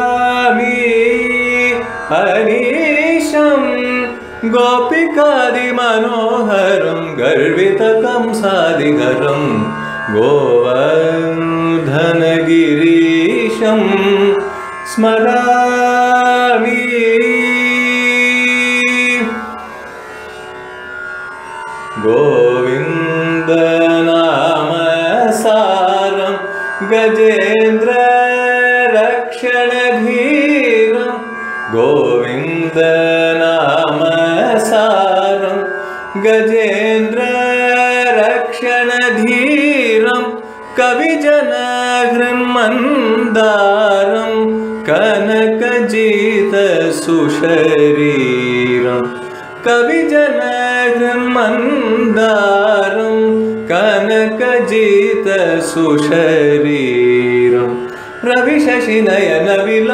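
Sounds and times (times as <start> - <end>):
ornamented melodic music: 0.0 - 59.9.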